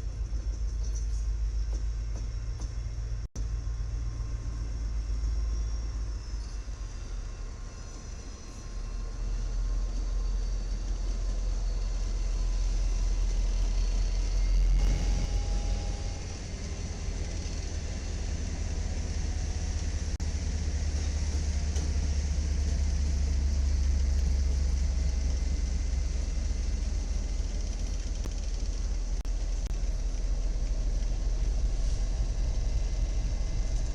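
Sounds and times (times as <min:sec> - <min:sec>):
vehicle rumble: 0:00.0 - 0:33.9.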